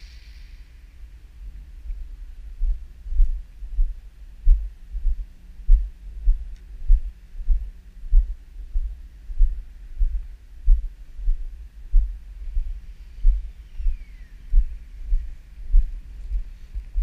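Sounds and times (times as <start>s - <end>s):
wind buffeting microphone: 1.8s - 17.0s.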